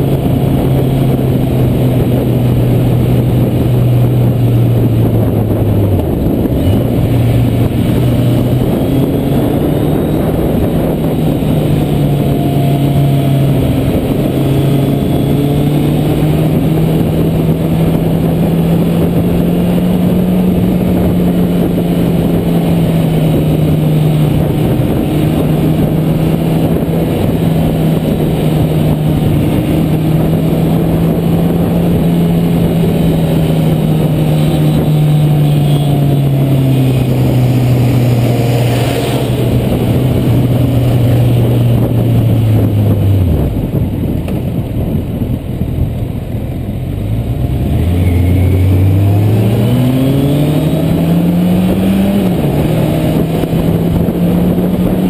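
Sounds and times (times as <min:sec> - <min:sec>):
motorcycle engine cruising: 0:00.0 - 0:55.0
wind noise rushing: 0:00.0 - 0:55.0.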